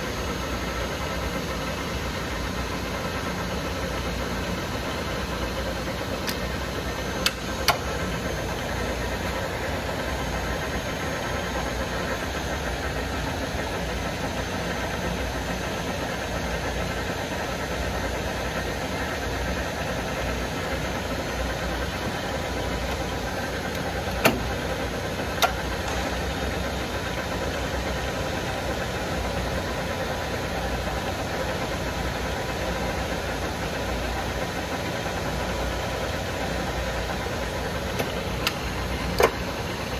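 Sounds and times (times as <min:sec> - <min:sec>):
lathe mechanical hum: 0:00.0 - 0:39.9.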